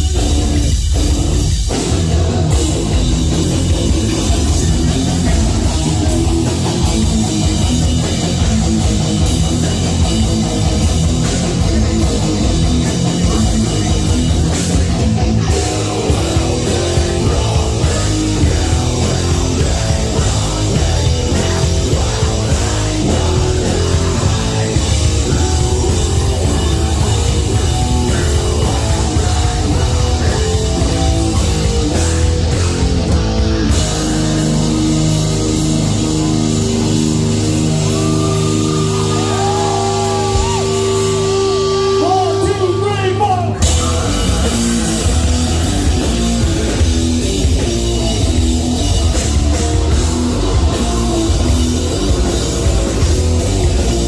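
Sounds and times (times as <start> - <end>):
distorted electric guitars: 0.0 - 54.0
pounding drum kit: 0.0 - 54.0.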